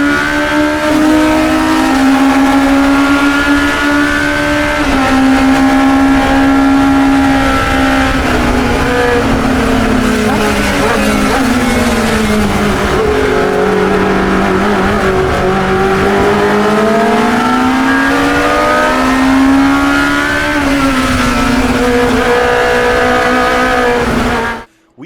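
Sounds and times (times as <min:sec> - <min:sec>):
racing car engine: 0:00.0 - 0:24.7.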